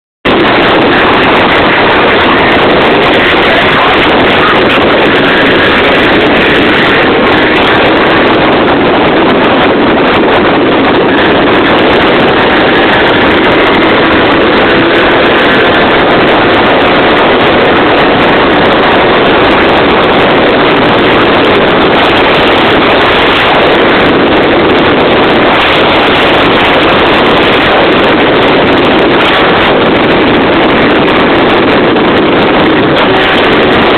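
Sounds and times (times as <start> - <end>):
wind buffeting on microphone: 0.2 - 33.9.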